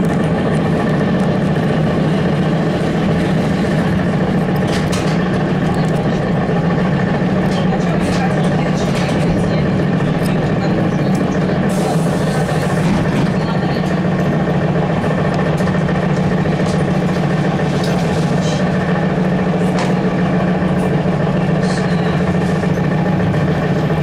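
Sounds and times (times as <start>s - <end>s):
trolleybus cabin hum: 0.0s - 24.0s.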